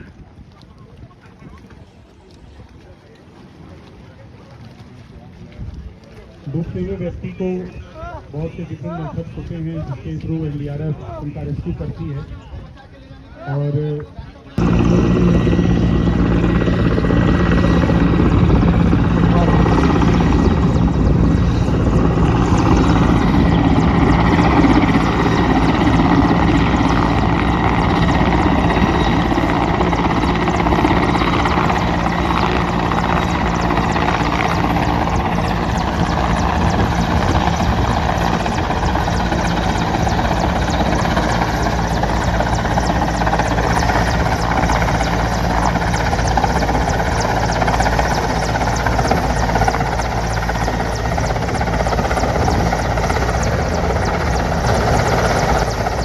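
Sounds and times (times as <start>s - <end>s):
helicopter hovering: 6.4s - 56.0s.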